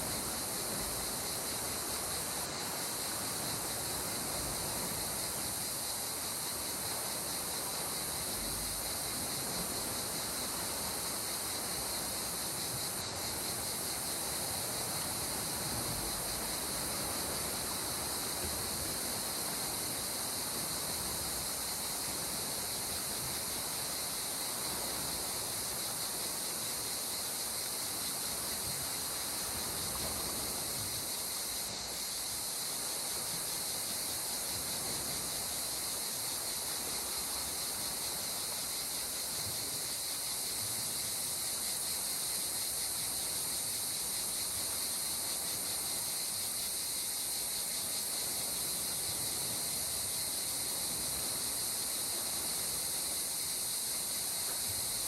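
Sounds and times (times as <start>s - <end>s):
high-pitched hiss: 0.0s - 55.0s.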